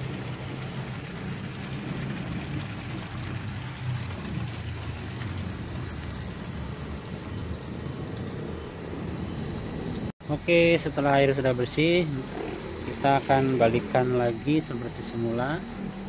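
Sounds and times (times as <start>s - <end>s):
water rushing from drain pipe: 0.0s - 16.0s.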